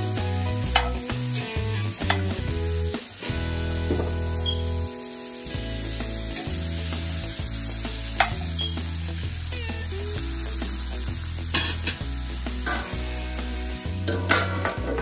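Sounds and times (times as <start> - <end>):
background music with bass line: 0.0 - 15.0
squash sizzling in a frying pan: 0.0 - 15.0.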